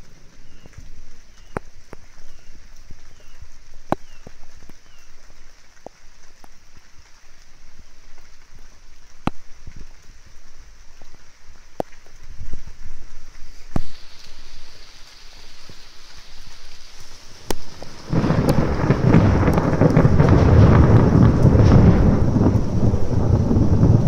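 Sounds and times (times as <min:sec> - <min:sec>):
rain hissing: 0:00.0 - 0:24.0
raindrops tapping close by: 0:00.0 - 0:24.0.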